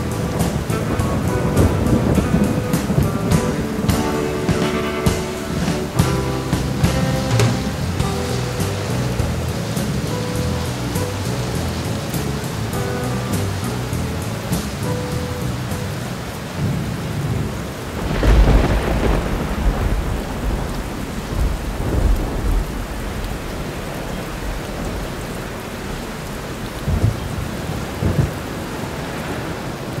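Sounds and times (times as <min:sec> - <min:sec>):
low thumps: 0:00.0 - 0:29.0
heavy rain falling: 0:00.0 - 0:30.0
thunder rumbling: 0:00.0 - 0:30.0.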